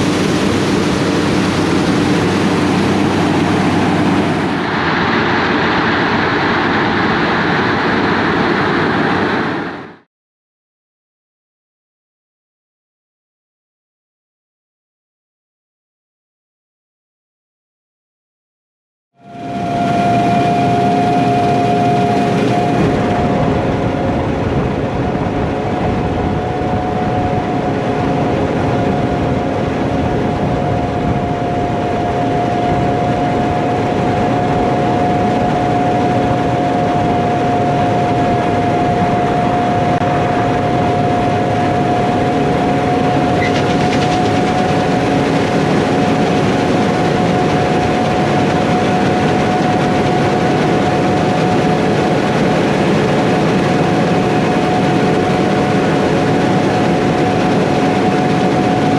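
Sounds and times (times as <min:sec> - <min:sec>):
heavy machinery engine drone: 0:00.0 - 0:10.0, 0:19.2 - 0:58.9
steady whine: 0:00.0 - 0:10.1, 0:19.2 - 0:58.9.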